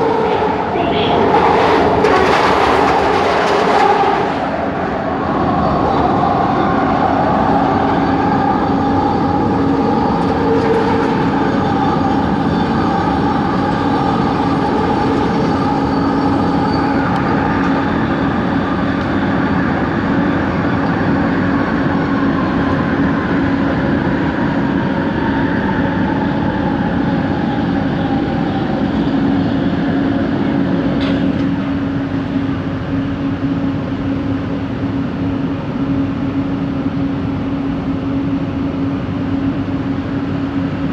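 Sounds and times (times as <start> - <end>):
train interior hum: 0.0 - 40.9.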